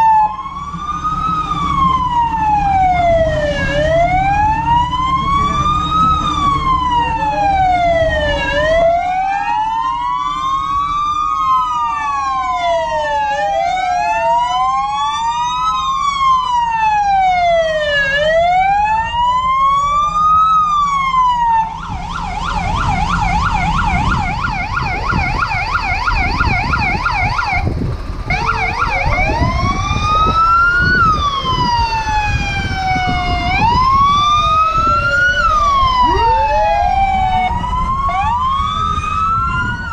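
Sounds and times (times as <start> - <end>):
fire truck sirens wailing: 0.0 - 39.9
truck engines rumbling: 0.0 - 39.9.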